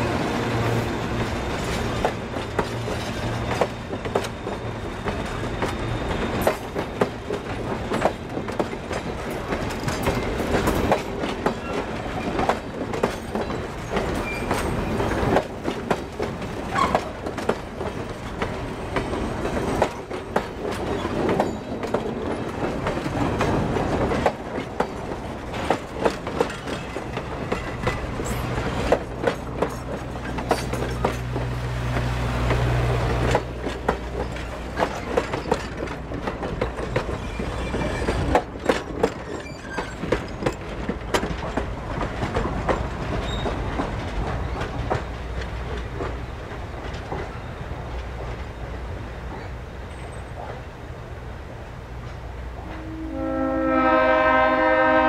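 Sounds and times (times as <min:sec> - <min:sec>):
train wheels clacking over rail joints: 0:00.2 - 0:50.6.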